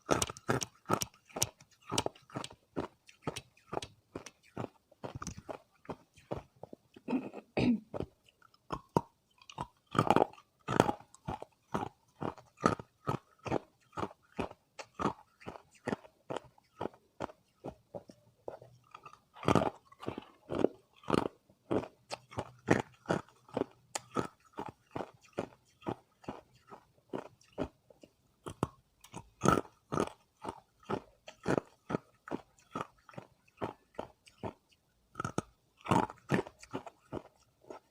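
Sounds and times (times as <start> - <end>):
ice being chewed: 0.0 - 7.2, 7.9 - 37.9.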